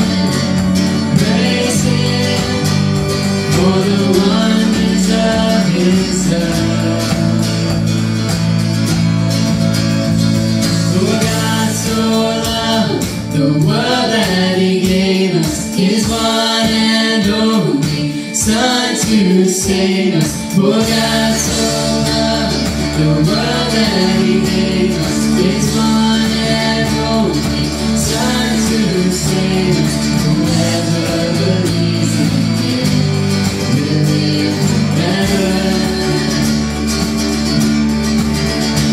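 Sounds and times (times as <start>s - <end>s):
person singing: 0.0s - 7.9s, 10.9s - 37.0s
guitar accompaniment: 0.0s - 38.9s
low bass: 0.0s - 38.9s.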